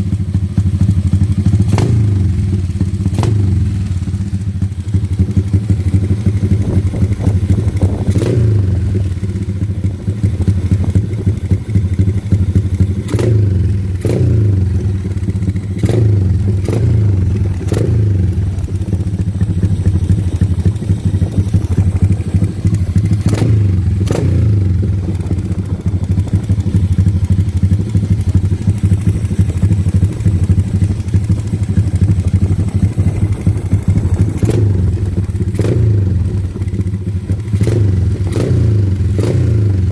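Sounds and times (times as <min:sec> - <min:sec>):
motorcycle engine idling loudly: 0:00.0 - 0:39.9
motorcycle throttle blips: 0:00.0 - 0:39.9.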